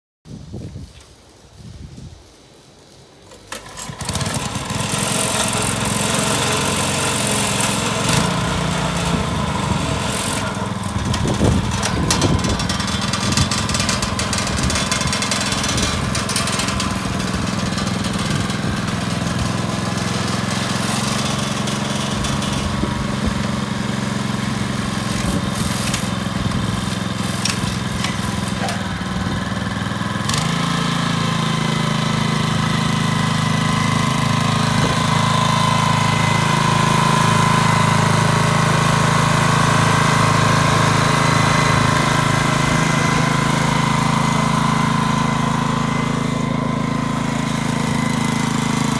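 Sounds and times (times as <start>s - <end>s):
tiller engine running: 3.3s - 48.9s.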